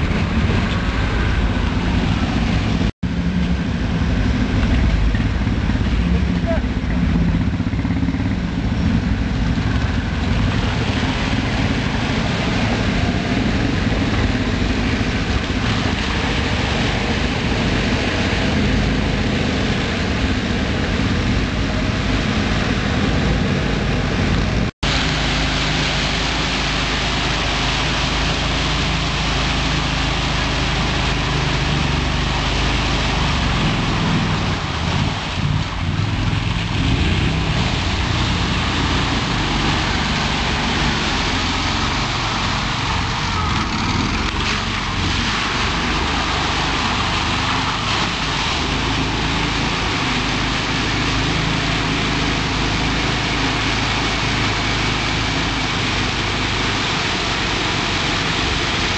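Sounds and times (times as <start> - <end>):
atv engines running loudly: 0.0 - 58.9.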